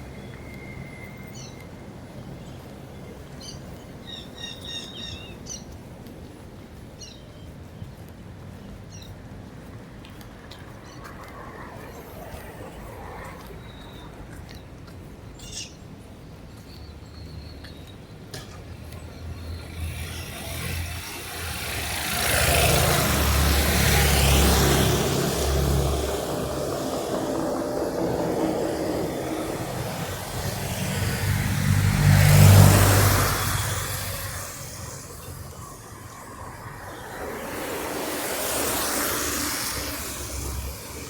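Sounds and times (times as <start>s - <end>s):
vehicles driving past: 0.0s - 41.0s.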